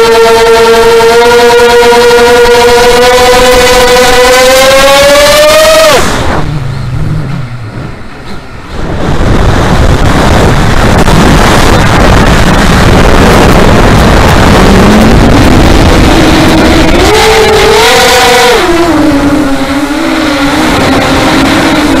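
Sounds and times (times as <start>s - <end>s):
drone motors whining: 0.0s - 9.4s, 10.1s - 22.0s
wind rushing on microphone: 0.0s - 22.0s.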